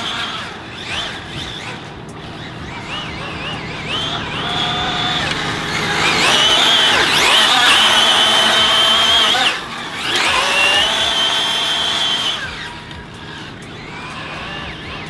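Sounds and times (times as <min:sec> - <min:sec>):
rc car motor whining: 0:00.0 - 0:15.0.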